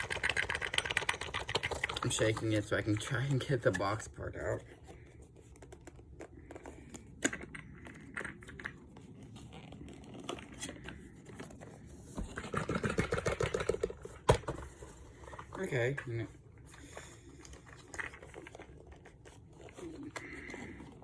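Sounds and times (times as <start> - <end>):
packaging rattling: 0.0 - 21.0
cardboard and plastic scraping: 1.5 - 21.0.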